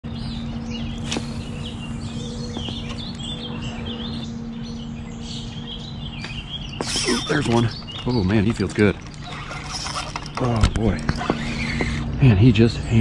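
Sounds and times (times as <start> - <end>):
low hum: 0.0 - 13.0
songbirds chirping and singing: 0.0 - 13.0.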